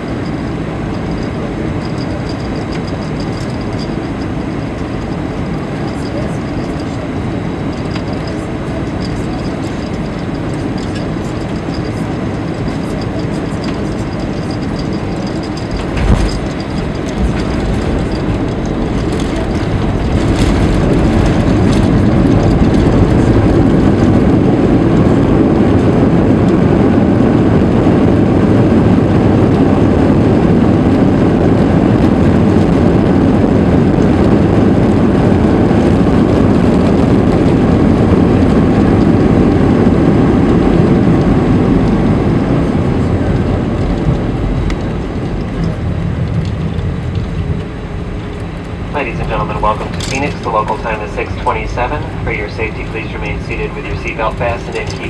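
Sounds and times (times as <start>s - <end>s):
aircraft engine and airflow rumble: 0.0s - 55.0s.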